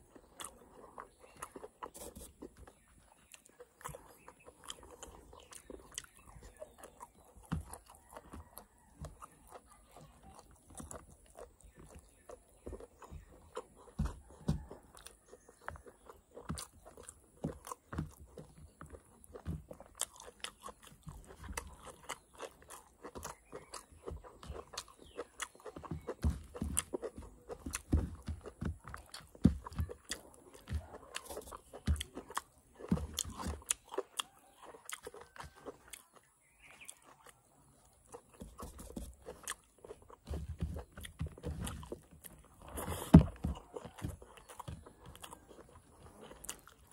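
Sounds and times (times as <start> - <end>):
person chewing and crunching: 0.0 - 46.9.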